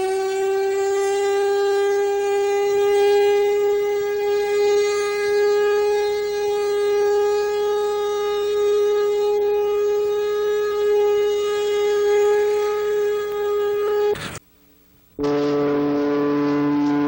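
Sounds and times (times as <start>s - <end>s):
air-raid siren steady tone: 0.0s - 14.4s, 15.2s - 17.0s.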